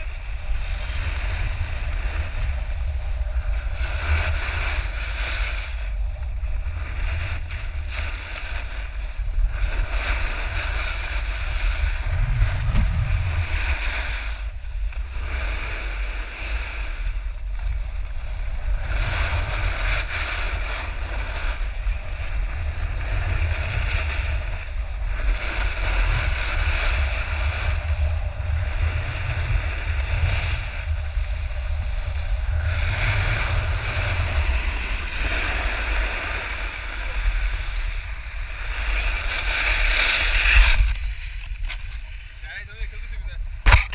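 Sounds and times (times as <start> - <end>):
snowboard edge scraping snow: 0.0 - 43.9
wind buffeting microphone: 0.0 - 43.9.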